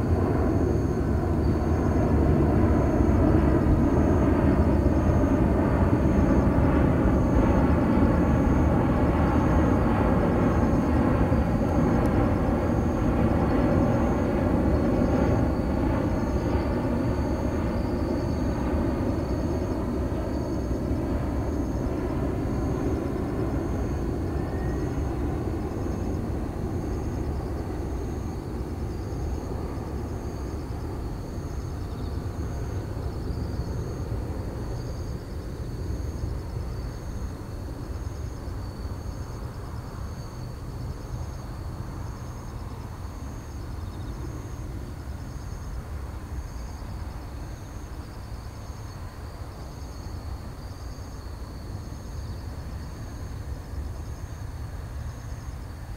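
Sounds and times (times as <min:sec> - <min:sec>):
jet engines rumbling overhead: 0:00.0 - 0:55.9.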